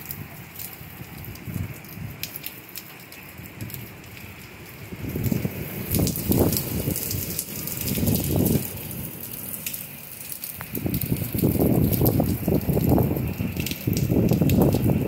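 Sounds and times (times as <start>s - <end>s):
wind gusts on microphone: 0.0s - 2.4s, 3.3s - 9.8s, 10.4s - 15.0s
heavy rain falling: 0.0s - 15.0s.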